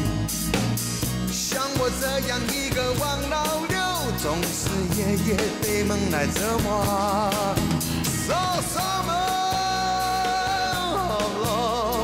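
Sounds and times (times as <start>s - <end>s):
pop band playing: 0.0s - 12.0s
person singing with vibrato: 1.3s - 12.0s.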